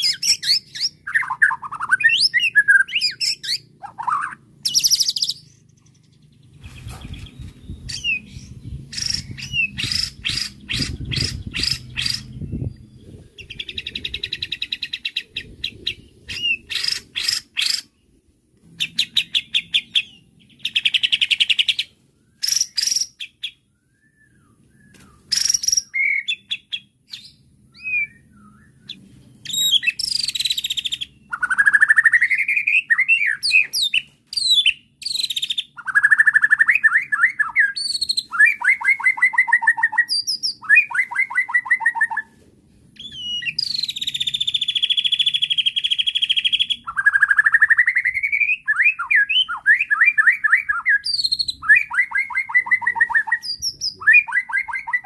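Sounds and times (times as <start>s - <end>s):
bird singing trills and whistles: 0.0s - 18.0s, 18.8s - 42.4s, 43.0s - 55.0s.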